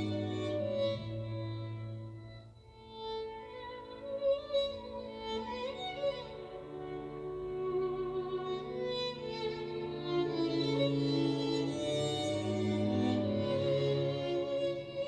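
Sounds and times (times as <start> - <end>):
violin playing slow melody: 0.0 - 15.0.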